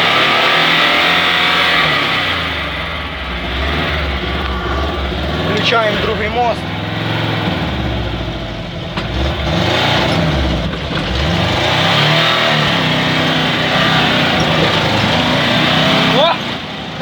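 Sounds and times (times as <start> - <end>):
engine labouring uphill: 0.0 - 17.0.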